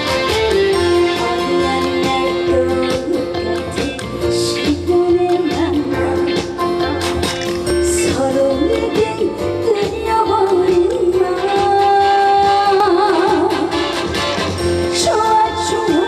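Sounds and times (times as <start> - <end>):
band with drums and bass: 0.0 - 16.0
woman singing: 0.7 - 13.8, 14.9 - 16.0.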